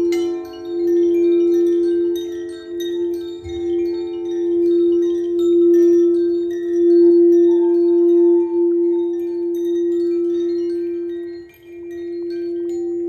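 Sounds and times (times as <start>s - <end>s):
chimes tinkling: 0.0s - 13.0s
singing bowl ringing: 0.0s - 13.0s.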